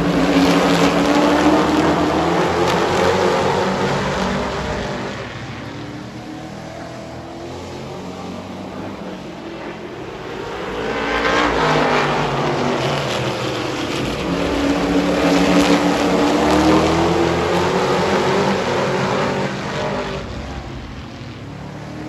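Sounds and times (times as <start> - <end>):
race truck engines passing: 0.0 - 22.0.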